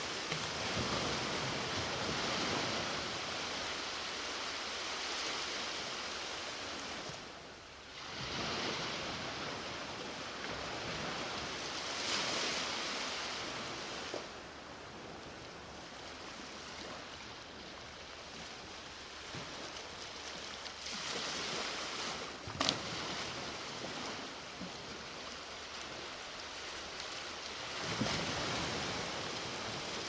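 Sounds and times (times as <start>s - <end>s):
ocean surf washing on beach: 0.0s - 30.0s.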